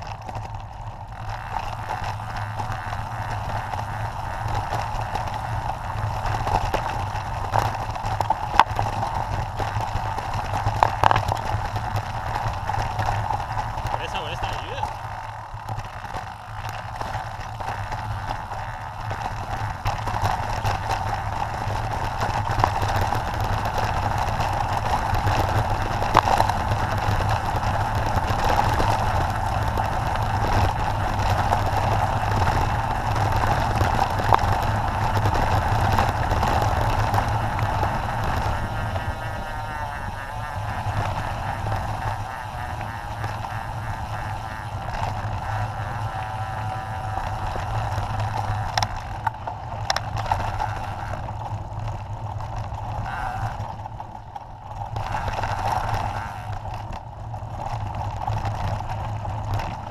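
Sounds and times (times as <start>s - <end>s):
bike rattling: 0.0s - 59.9s.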